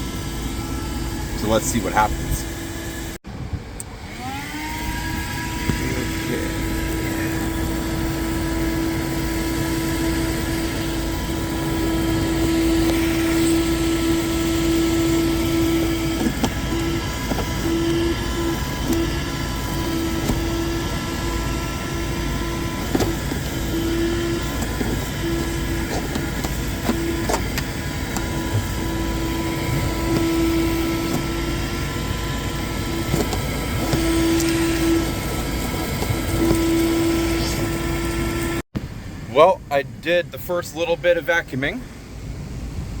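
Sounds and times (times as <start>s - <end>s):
car vacuum cleaner running: 0.0s - 38.7s.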